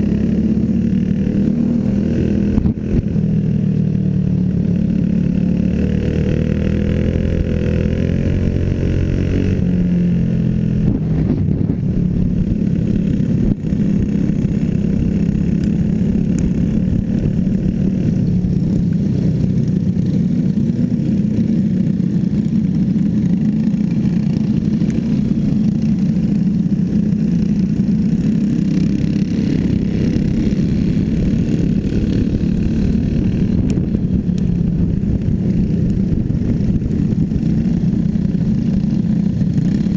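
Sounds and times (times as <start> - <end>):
small racing engines droning: 0.0 - 39.9.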